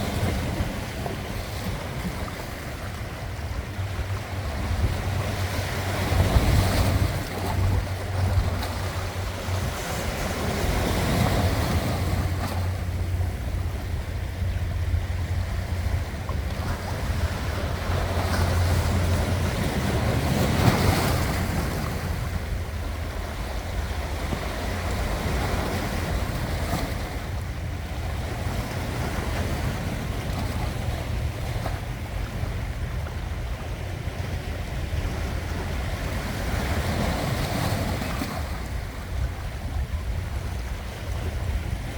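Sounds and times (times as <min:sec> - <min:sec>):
low rumble of wind: 0:00.0 - 0:41.9
sea waves breaking on shore: 0:00.0 - 0:41.9.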